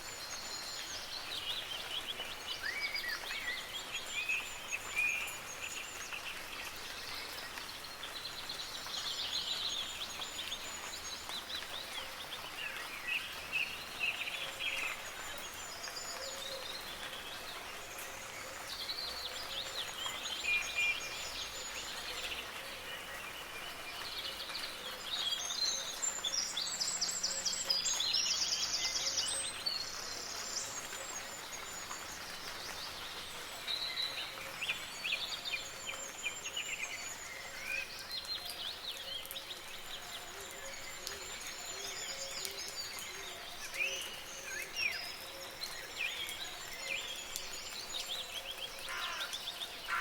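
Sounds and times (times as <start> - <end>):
soft rain hiss: 0.0 - 50.0
songbirds singing and chirping: 0.0 - 50.0.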